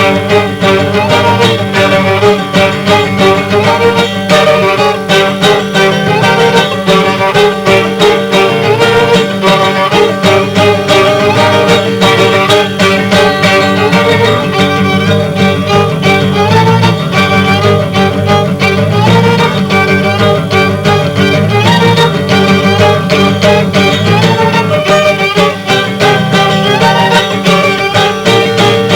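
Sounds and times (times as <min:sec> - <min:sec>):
quickly picked guitar: 0:00.0 - 0:28.9
violin melody with sliding notes: 0:00.0 - 0:28.9.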